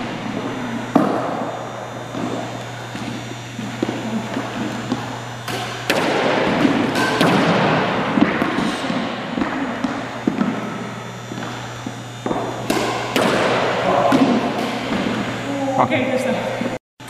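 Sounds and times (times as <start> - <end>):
rackets striking squash ball: 0.0 - 15.5
ball hitting court walls: 0.1 - 15.4.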